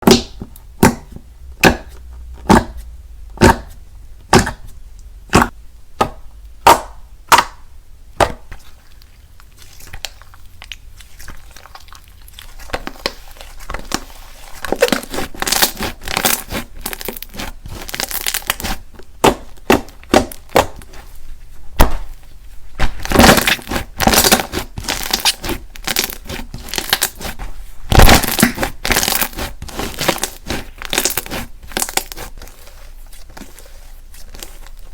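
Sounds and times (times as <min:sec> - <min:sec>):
slime squishing and popping: 0:00.0 - 0:02.8, 0:03.4 - 0:04.7, 0:05.3 - 0:20.9, 0:22.8 - 0:32.5.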